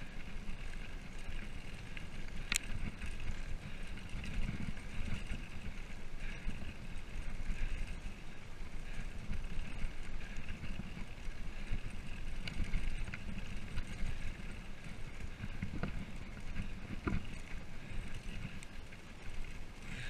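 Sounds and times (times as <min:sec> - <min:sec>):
light clicks and rattles: 0:00.0 - 0:20.0
wind buffeting microphone: 0:00.0 - 0:20.0.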